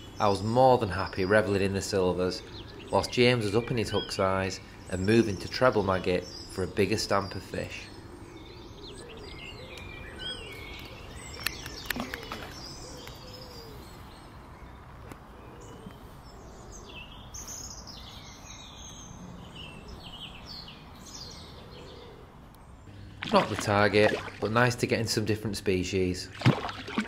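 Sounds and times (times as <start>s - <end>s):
outdoor background noise: 0.0s - 27.0s
songbirds singing and chirping: 0.0s - 27.0s.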